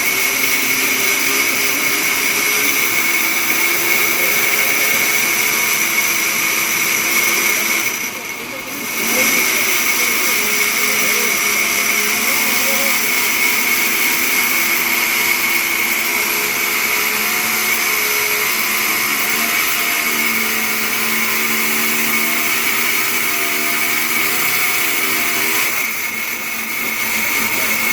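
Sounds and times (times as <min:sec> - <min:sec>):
sawmill saw whining through log: 0:00.0 - 0:27.9.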